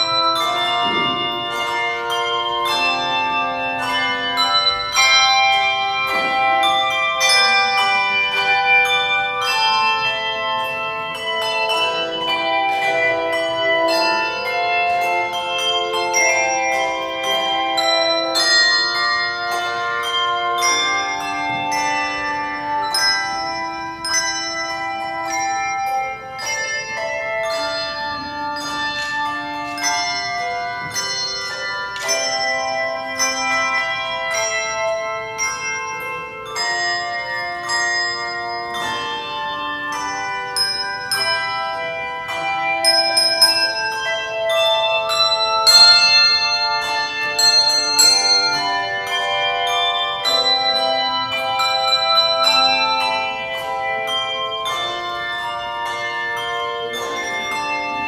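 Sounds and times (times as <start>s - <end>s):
handbell choir playing: 0.0s - 58.0s.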